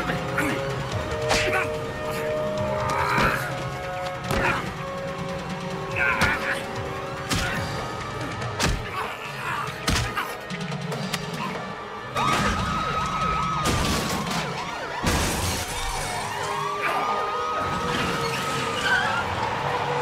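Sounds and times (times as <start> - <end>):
police sirens wailing: 0.0 - 20.0
tense music: 0.0 - 20.0.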